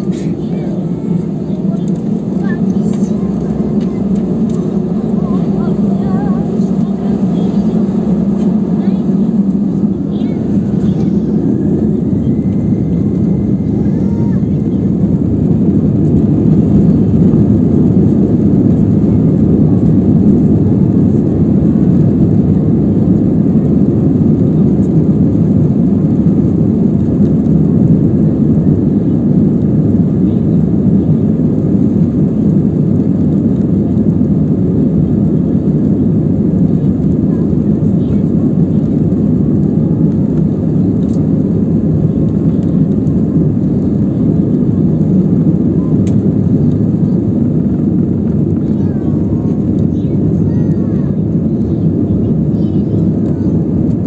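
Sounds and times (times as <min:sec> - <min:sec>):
jet engines at high thrust: 0:00.0 - 0:54.0.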